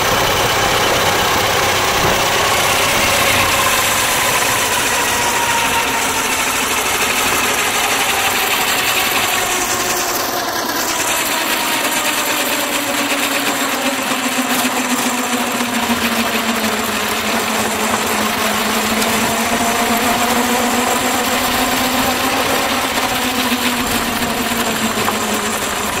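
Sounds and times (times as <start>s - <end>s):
mechanical whine: 0.0s - 26.0s
steam road locomotive clattering: 0.0s - 26.0s.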